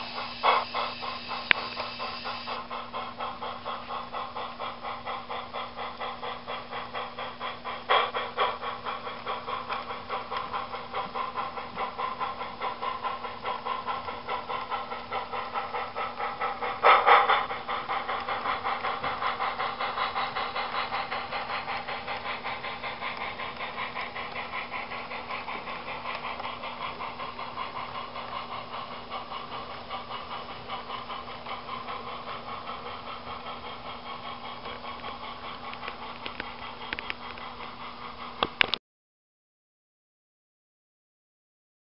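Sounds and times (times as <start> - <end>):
model steam locomotive chuffing: 0.0 - 38.8.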